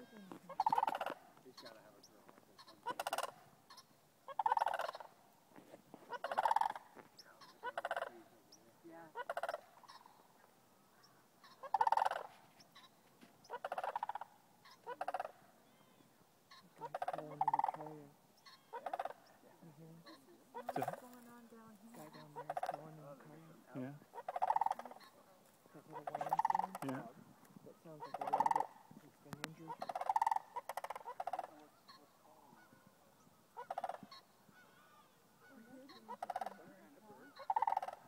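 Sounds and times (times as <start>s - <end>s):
cranes rolling rattling calls: 0.0s - 8.2s, 9.1s - 10.3s, 11.0s - 15.8s, 16.5s - 19.4s, 20.0s - 23.0s, 24.0s - 29.0s, 29.7s - 38.0s.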